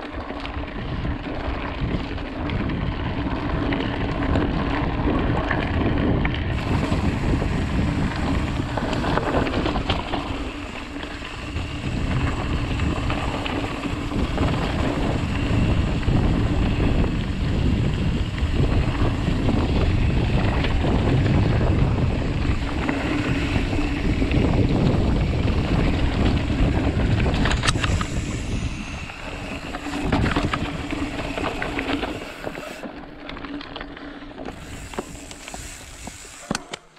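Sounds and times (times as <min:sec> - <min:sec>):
wind rushing over microphone: 0:00.0 - 0:32.9
bike clicks and knocks: 0:00.0 - 0:36.9
bike tyre noise: 0:00.0 - 0:36.9.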